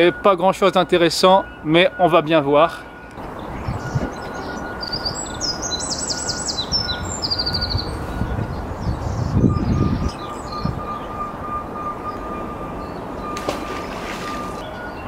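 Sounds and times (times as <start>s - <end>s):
songbird singing trills: 2.7s - 15.0s.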